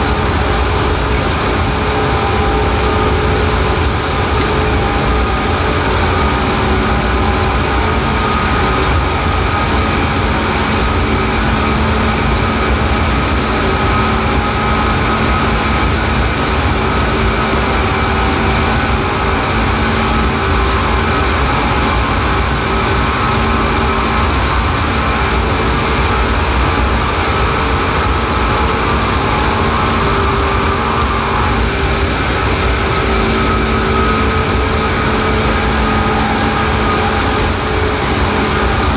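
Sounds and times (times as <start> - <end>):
motor and gear hum: 0.0 - 38.9
train wheels rumbling: 0.0 - 38.9.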